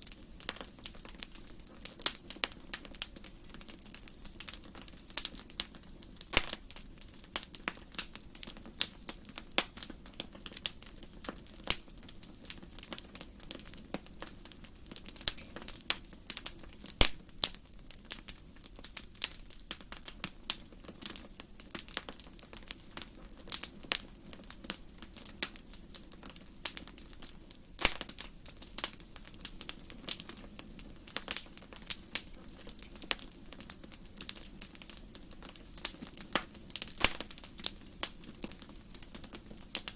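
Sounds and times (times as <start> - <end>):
fire pops and snaps: 0.0 - 39.9
low fire burning: 0.0 - 39.9.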